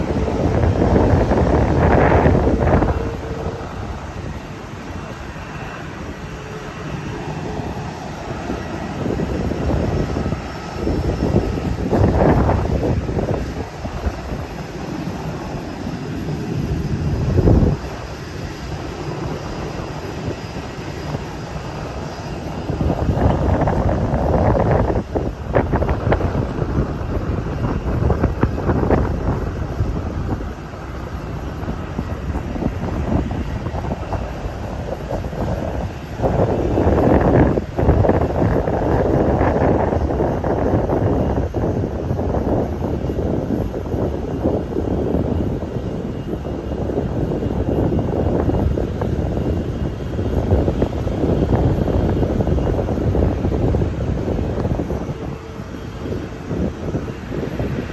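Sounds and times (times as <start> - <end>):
airliner rumbling past: 0.0 - 57.9
jet engines roaring: 0.0 - 57.9
wind buffeting microphone: 0.0 - 57.9.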